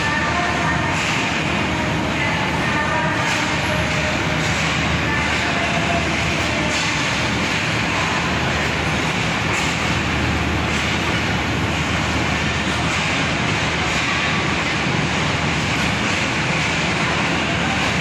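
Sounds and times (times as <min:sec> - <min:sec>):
train coaches rolling past: 0:00.0 - 0:18.0.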